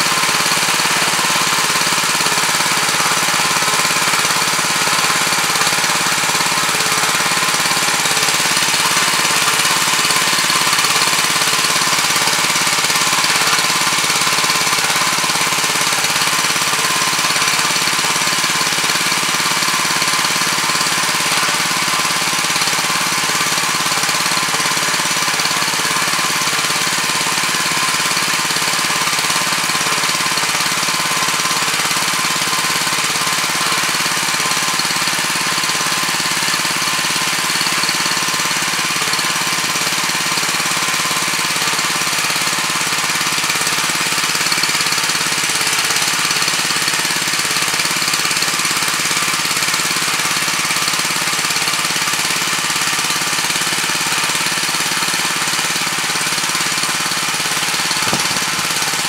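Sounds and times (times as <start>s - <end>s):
rotary tines working soil: 0.0s - 59.0s
tiller engine running under load: 0.0s - 59.0s.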